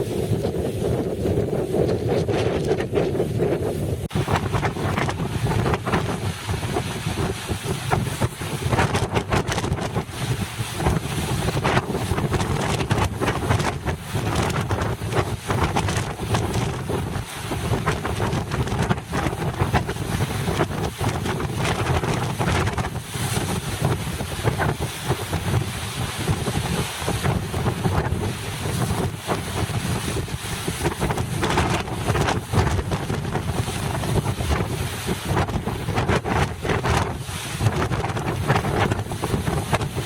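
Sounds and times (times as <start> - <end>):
choppy water surf: 0.0 - 40.0
strong wind buffeting microphone: 0.0 - 40.0.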